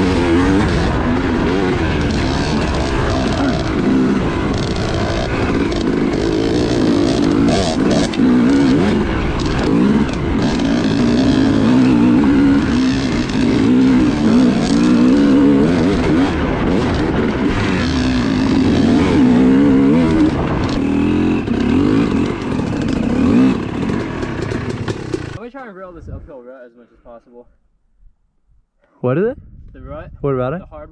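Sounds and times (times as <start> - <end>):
dirt bike engine revving: 0.0 - 25.4.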